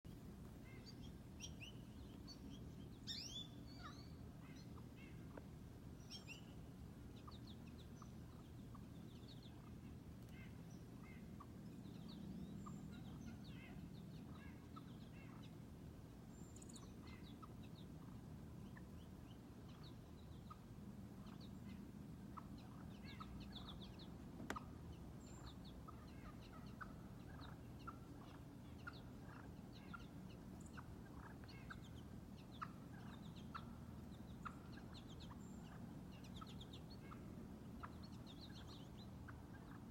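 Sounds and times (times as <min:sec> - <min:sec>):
low steady hum: 0:00.1 - 0:39.9
wild turkeys clucking and chirping: 0:00.1 - 0:39.9.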